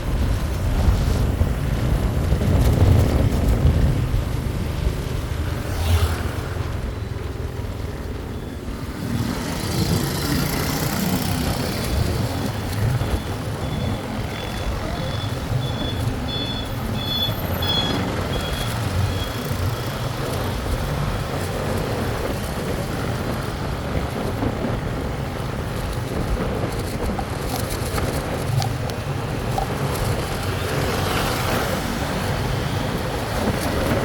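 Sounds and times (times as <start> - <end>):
engine road and wind noise: 0.0 - 34.0.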